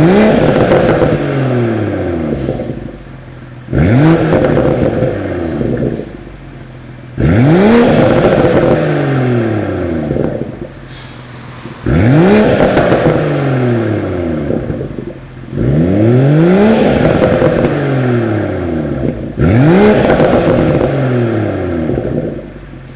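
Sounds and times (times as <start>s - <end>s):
car engine revving: 0.0s - 22.9s
exhaust popping and crackling: 0.0s - 22.9s.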